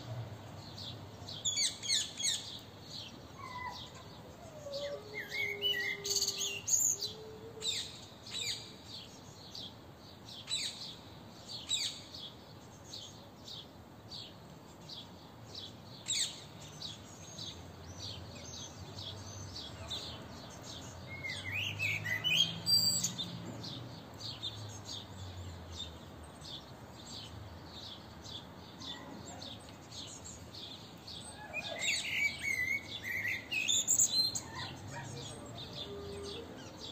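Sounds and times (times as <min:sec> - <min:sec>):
birds chirping: 0:00.5 - 0:07.8, 0:11.6 - 0:36.9
bird warbling song: 0:00.7 - 0:09.7, 0:14.2 - 0:36.9.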